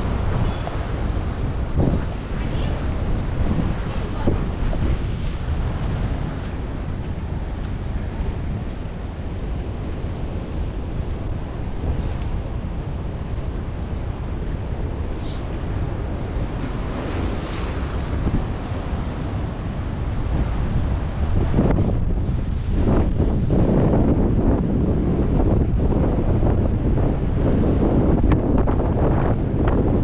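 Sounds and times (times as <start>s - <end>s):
surf rushing: 0.0s - 30.0s
wind buffeting microphone: 0.0s - 30.0s.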